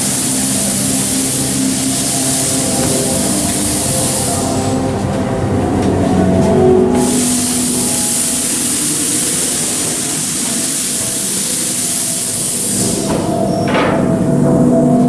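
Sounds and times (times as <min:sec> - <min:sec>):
loud steady steam hiss: 0:00.0 - 0:14.9
faint sustained musical tones: 0:00.0 - 0:15.0.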